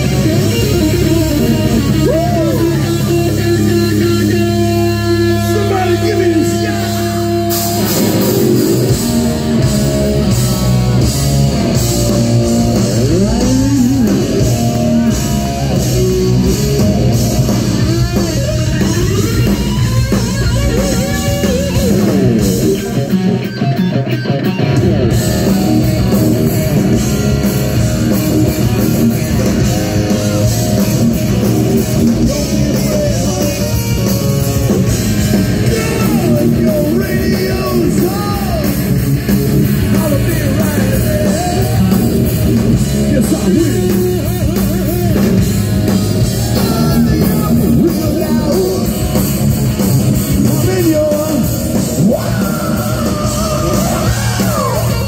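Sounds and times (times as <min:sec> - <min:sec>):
bass: 0:00.0 - 0:55.0
distorted electric guitar: 0:00.0 - 0:55.0
drums: 0:00.0 - 0:55.0.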